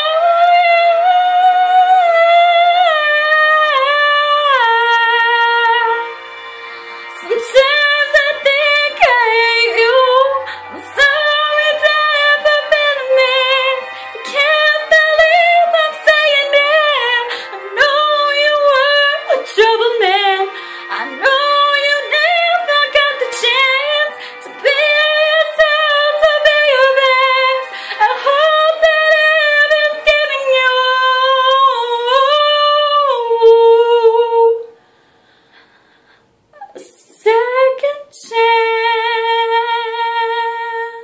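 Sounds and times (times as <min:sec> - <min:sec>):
woman singing a slow ballad: 0:00.0 - 0:06.2, 0:07.1 - 0:34.8, 0:36.6 - 0:41.0.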